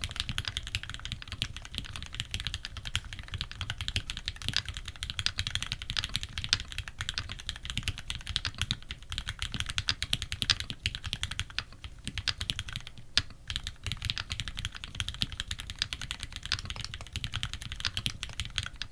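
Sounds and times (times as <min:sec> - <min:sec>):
mechanical keyboard typing: 0:00.0 - 0:18.9.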